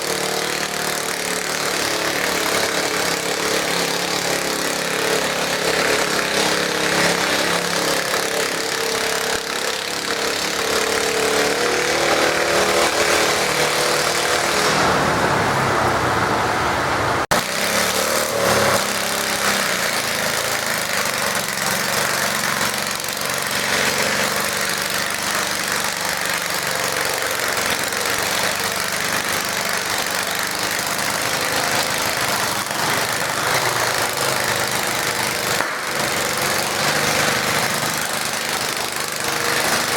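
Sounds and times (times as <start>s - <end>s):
tractor engine running under load: 0.0s - 15.6s, 17.2s - 39.9s.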